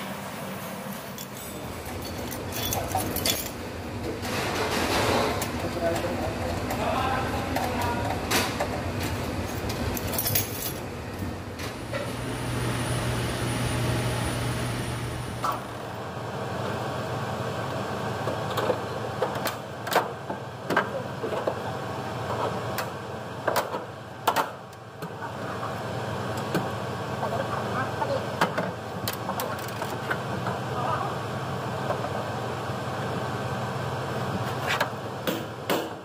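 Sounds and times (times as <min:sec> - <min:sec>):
hvac fan humming with whine: 0:00.0 - 0:36.0.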